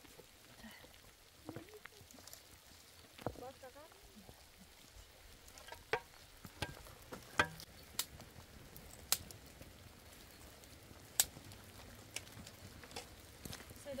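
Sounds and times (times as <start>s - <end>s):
faint steady hiss: 0.0s - 14.0s
water dripping: 0.0s - 14.0s.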